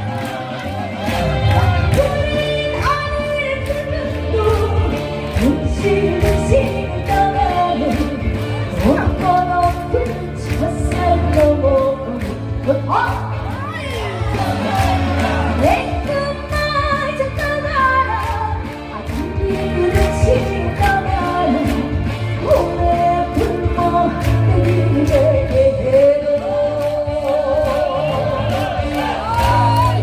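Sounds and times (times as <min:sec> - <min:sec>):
woman singing with vibrato: 0:01.4 - 0:30.0.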